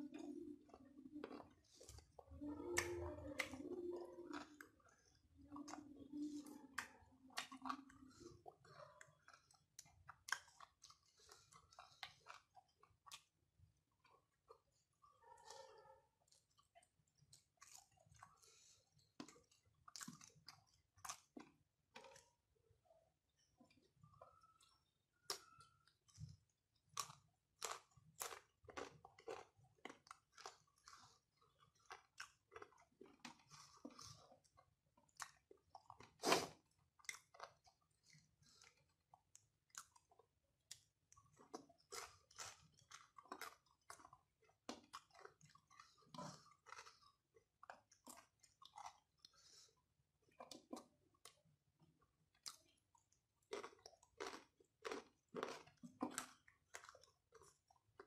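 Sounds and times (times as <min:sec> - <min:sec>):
person chewing crunchy food: 0:00.0 - 0:22.5, 0:23.4 - 0:58.0.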